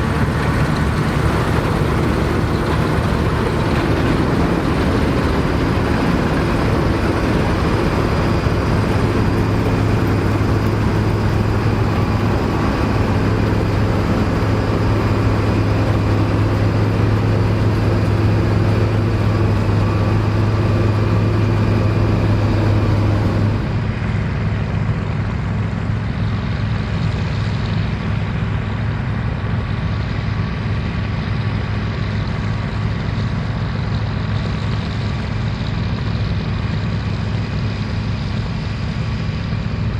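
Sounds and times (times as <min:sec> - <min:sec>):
combine harvester engine hum: 0:00.0 - 0:39.9
threshing machinery noise: 0:00.0 - 0:39.9.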